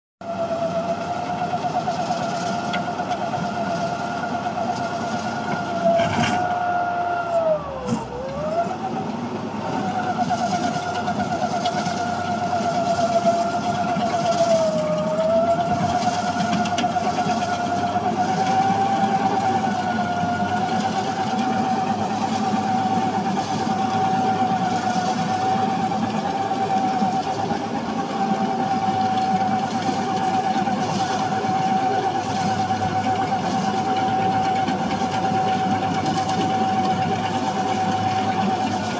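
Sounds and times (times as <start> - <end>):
compost turner mechanical whine: 0.2 - 38.9
rotor churning compost: 0.2 - 38.9.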